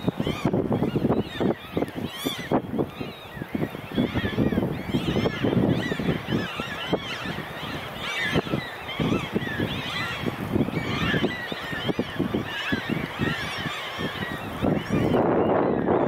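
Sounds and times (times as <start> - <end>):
flock of waterbirds calling: 0.0 - 16.0.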